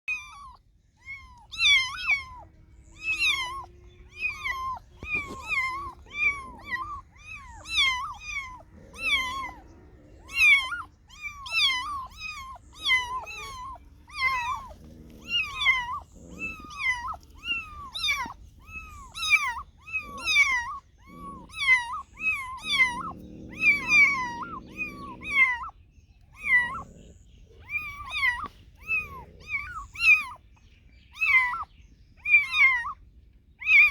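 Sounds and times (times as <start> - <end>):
cat meowing: 0.1 - 27.0, 27.6 - 30.4, 31.2 - 33.0, 33.6 - 33.9.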